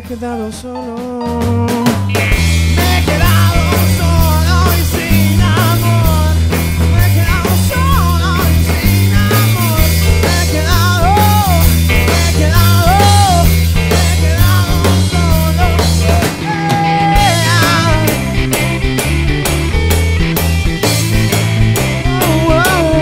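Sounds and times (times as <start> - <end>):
rock band playing live: 0.0 - 23.0
heavy electric bass line: 1.4 - 23.0.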